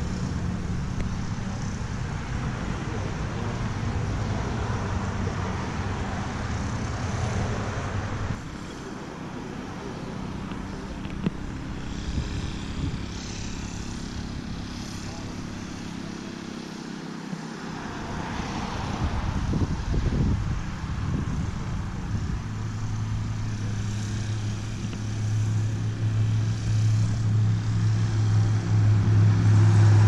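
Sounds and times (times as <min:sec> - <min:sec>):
passing vehicles: 0:00.0 - 0:30.0.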